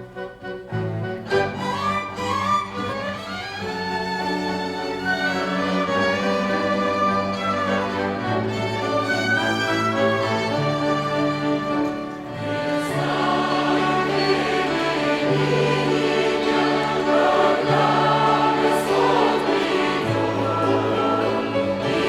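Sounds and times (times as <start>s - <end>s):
string ensemble playing a hymn: 0.0s - 22.0s.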